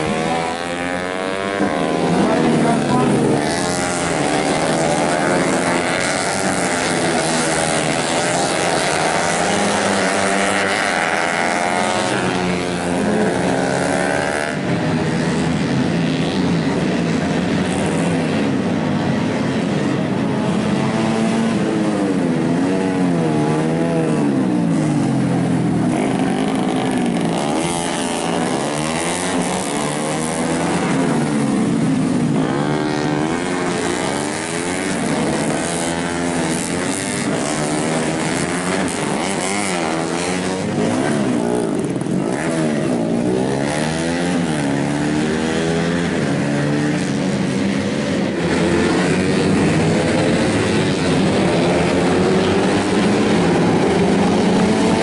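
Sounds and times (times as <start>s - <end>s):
racing motorcycles revving: 0.0s - 55.0s.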